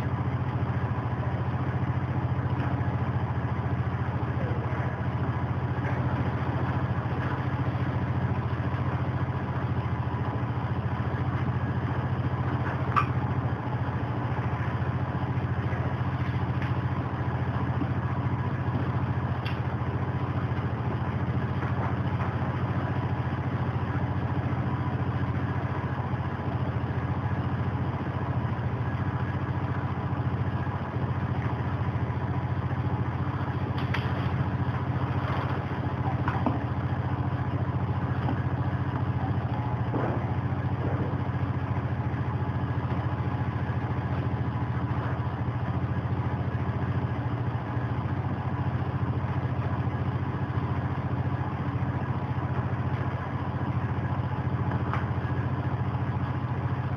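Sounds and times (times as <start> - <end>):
low mechanical hum: 0.0 - 56.9.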